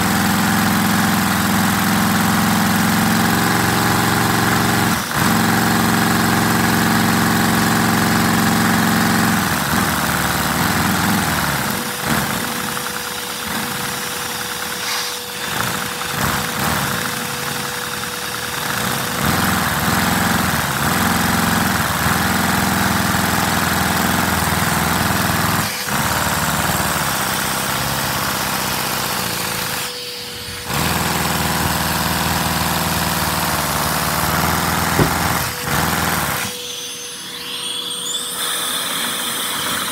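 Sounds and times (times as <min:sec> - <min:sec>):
model engine running: 0:00.0 - 0:39.9
vacuum cleaner motor: 0:00.0 - 0:39.9.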